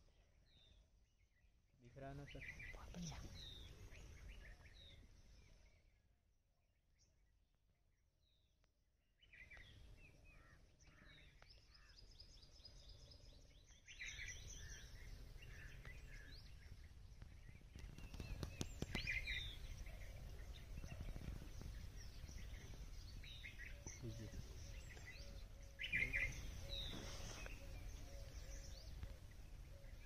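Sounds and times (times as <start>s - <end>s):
birds chirping and calling: 1.9s - 5.8s, 9.3s - 30.0s.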